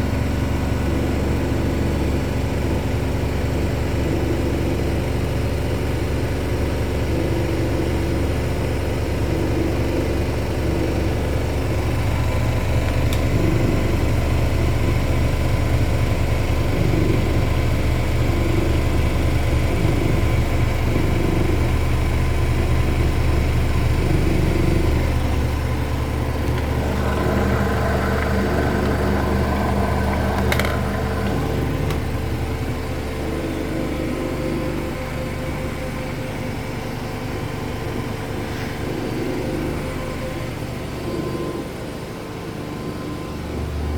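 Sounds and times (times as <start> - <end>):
washing machines spinning: 0.0 - 43.9.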